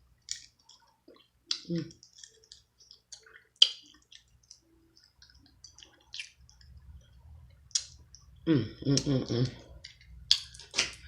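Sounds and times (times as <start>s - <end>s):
wet squishy sounds: 0.2s - 11.0s.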